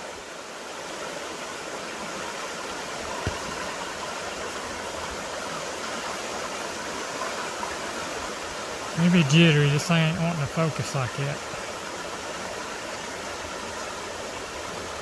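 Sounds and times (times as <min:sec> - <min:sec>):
creek water running over rocks: 0:00.0 - 0:15.0.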